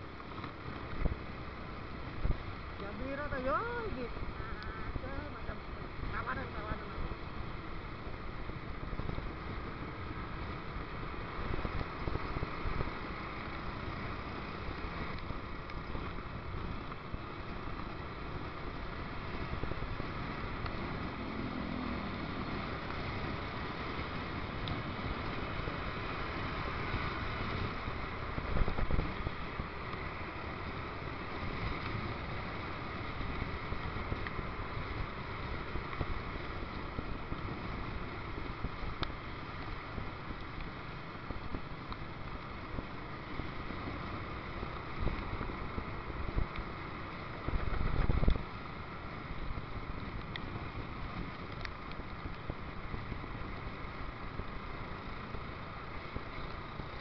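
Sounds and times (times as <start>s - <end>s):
road rumble: 0.0s - 57.0s
wind noise: 0.0s - 57.0s.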